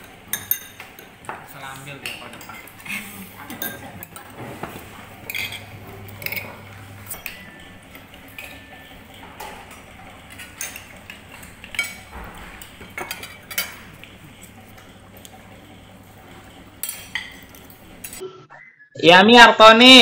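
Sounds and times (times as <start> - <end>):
cutlery clinking on plates: 0.0 - 15.3, 16.8 - 18.2.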